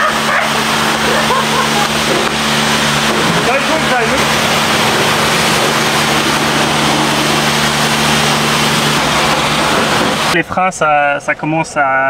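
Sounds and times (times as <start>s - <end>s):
pressure washer spray hissing: 0.0s - 10.4s
pressure pump humming: 0.0s - 10.5s.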